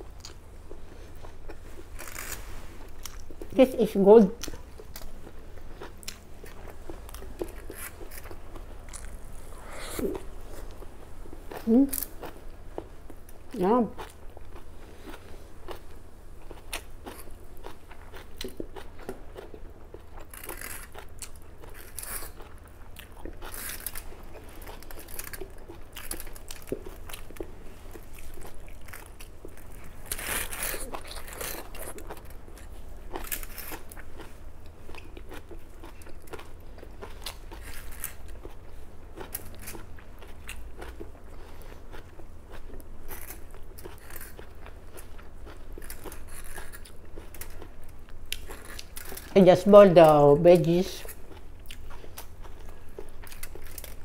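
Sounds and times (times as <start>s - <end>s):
chewing and crunching food: 0.0s - 54.0s
steady low hum: 0.0s - 54.0s.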